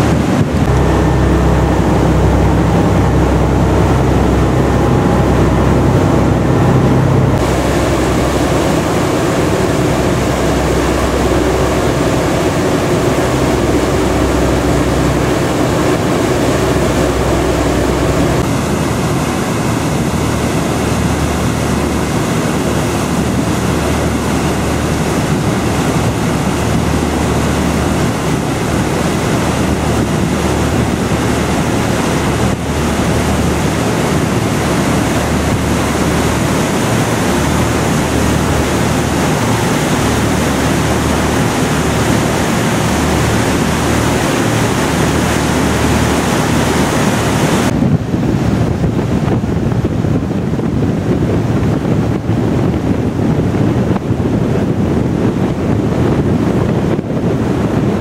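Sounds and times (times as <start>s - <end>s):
boat engine drone: 0.0s - 58.0s
water rushing in wake: 0.0s - 58.0s
wind buffeting microphone: 0.0s - 58.0s.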